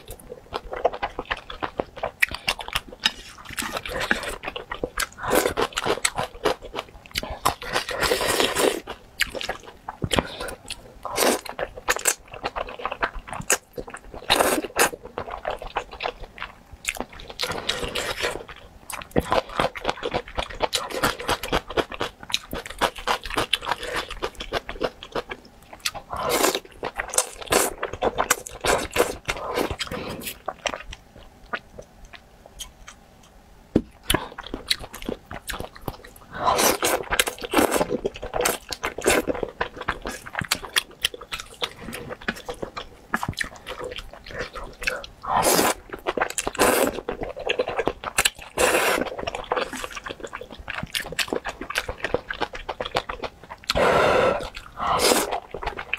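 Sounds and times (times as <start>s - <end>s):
slurping and chewing noodles: 0.1s - 30.9s, 34.0s - 55.9s.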